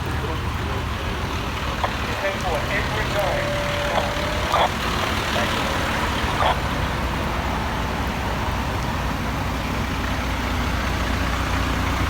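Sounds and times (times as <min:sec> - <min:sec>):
city street traffic: 0:00.0 - 0:12.0
heavy vehicle engines idling: 0:00.0 - 0:12.0.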